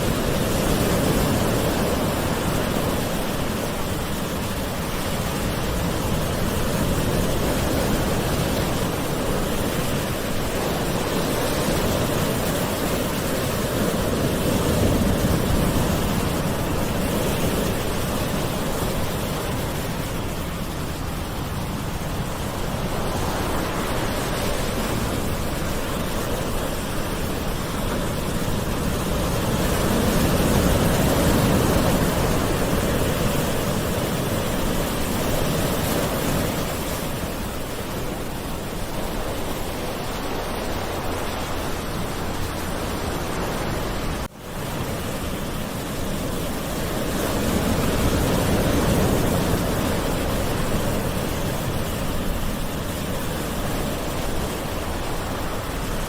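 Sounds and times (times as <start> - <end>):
gentle ocean waves on shore: 0.0 - 56.0.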